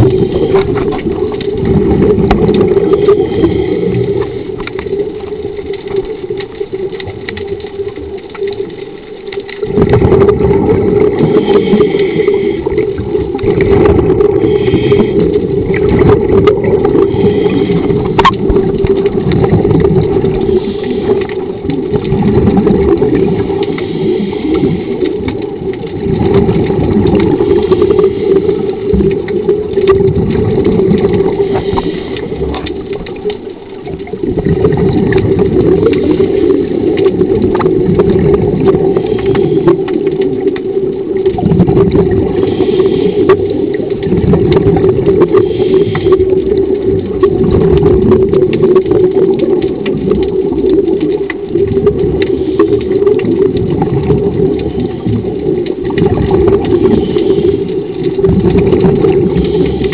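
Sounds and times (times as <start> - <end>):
bubbling water: 0.0 - 59.9
underwater motor hum: 0.0 - 59.9.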